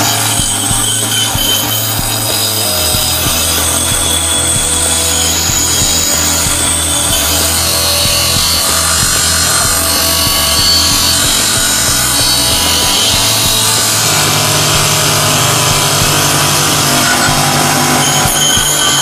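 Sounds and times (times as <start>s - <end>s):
bench grinder grinding metal: 0.0s - 19.0s.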